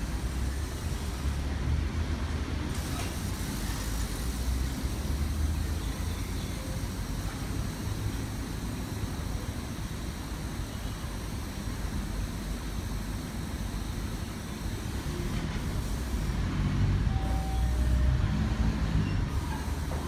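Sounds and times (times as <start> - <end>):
heavy vehicle engine: 0.0 - 20.0
low rumble of passing vehicles: 0.0 - 20.0.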